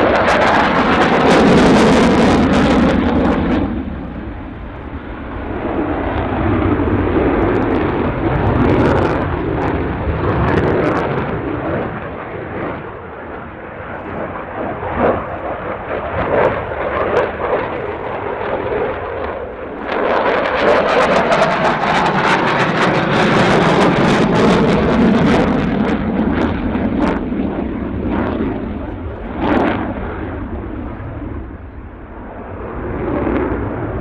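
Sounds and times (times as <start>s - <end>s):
fighter jet noise: 0.0s - 34.0s.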